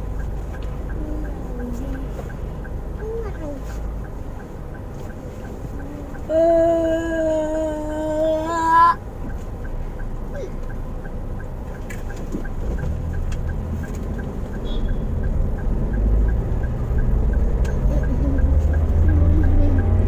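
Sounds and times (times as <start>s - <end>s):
steady quick ticking: 0.0s - 7.2s, 8.2s - 20.0s
car engine and road rumble: 0.0s - 20.0s.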